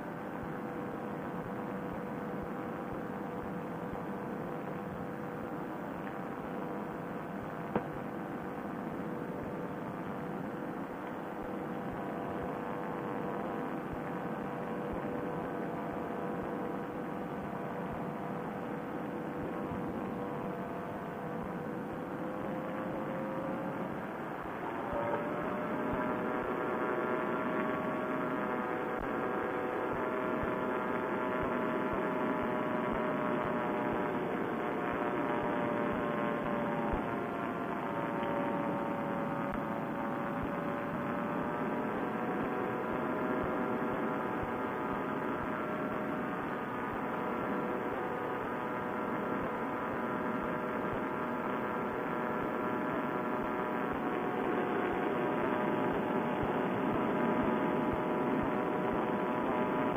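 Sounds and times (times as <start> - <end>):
paramotor engine droning: 0.0 - 59.9.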